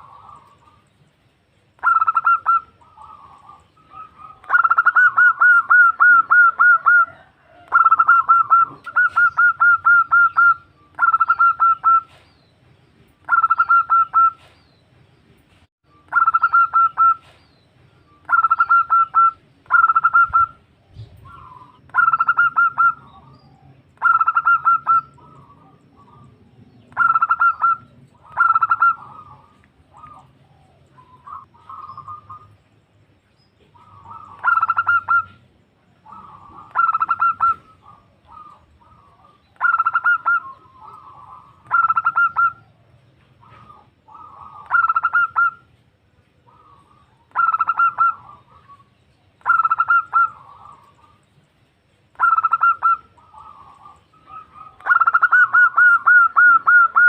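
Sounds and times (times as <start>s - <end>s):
dove cooing: 0.0s - 0.9s, 1.8s - 12.2s, 13.2s - 14.5s, 16.1s - 17.4s, 18.2s - 32.6s, 33.6s - 51.2s, 52.1s - 57.0s.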